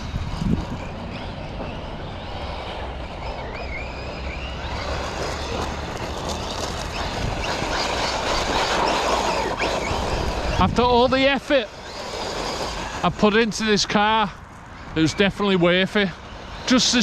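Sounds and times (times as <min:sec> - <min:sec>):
electric motor whine: 0:00.0 - 0:17.0
tyre and drivetrain noise: 0:00.0 - 0:17.0.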